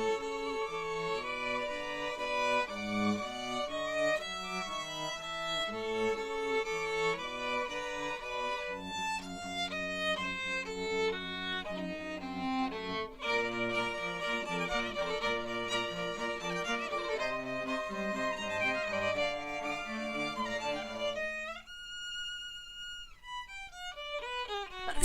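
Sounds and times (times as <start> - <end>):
bowed string music: 0.0 - 25.0
violin melody: 0.0 - 25.0.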